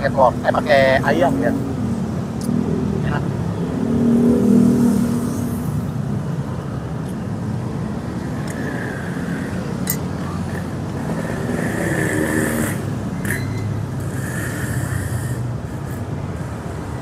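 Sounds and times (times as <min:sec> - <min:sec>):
road traffic noise: 0:00.0 - 0:17.0
vehicles passing: 0:00.0 - 0:17.0.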